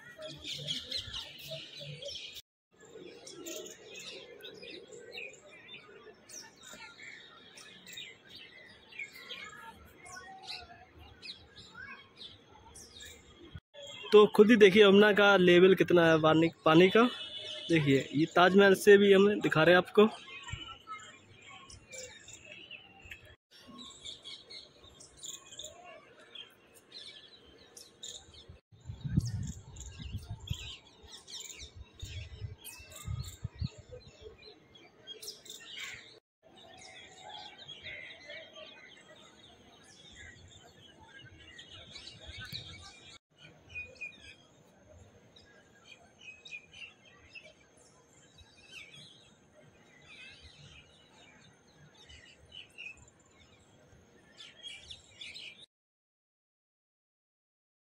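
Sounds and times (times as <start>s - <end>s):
small birds chirping: 0.0s - 55.7s.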